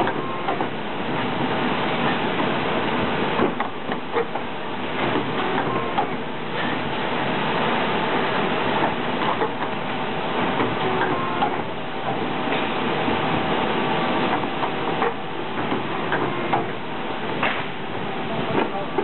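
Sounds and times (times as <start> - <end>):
factory machinery hum: 0.0 - 19.0.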